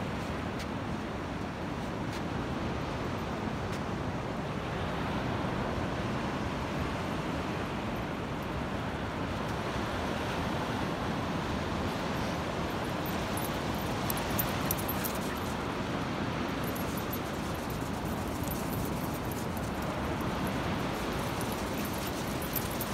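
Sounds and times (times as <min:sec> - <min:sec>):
sea surf: 0:02.6 - 0:22.9.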